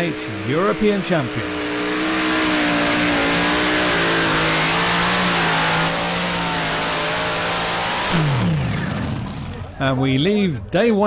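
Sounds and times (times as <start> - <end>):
tractor engine at high revs: 0.0 - 10.4.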